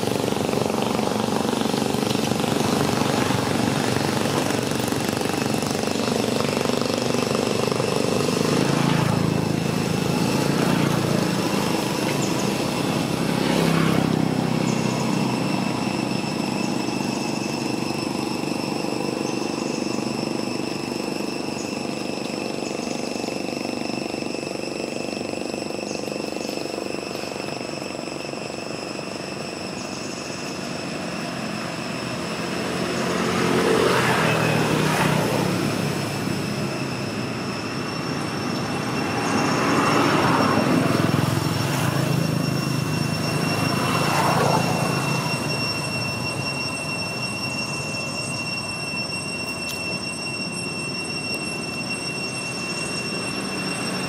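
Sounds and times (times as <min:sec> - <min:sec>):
high-pitched whine: 0:00.0 - 0:54.0
passing motor vehicles: 0:00.0 - 0:54.0
steady background hum: 0:00.0 - 0:54.0.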